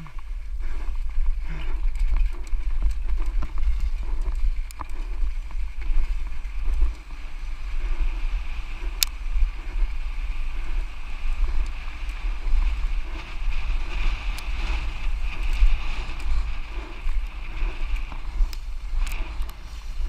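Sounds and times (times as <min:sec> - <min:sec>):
bike tyre and trail noise: 0:00.0 - 0:20.0
wind buffeting microphone: 0:00.0 - 0:20.0.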